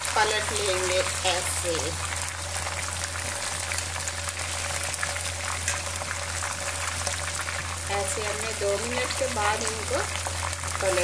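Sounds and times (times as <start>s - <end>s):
chicken sizzling in hot oil: 0.0s - 11.0s
low steady hum: 0.0s - 11.0s.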